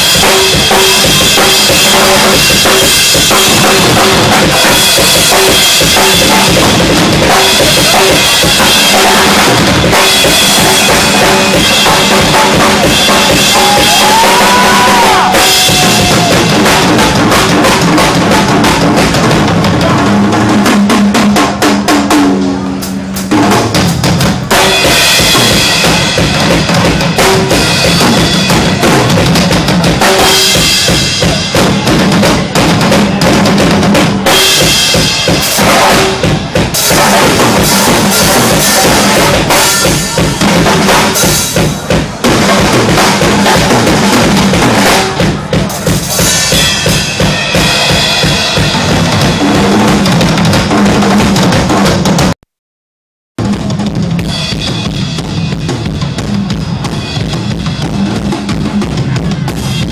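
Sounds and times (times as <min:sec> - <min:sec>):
cymbals: 0:00.0 - 0:20.2, 0:21.4 - 0:51.7
bass drum: 0:00.0 - 0:52.4
live band playing: 0:00.0 - 0:52.4, 0:53.4 - 0:59.9
snare drum: 0:00.0 - 0:52.4.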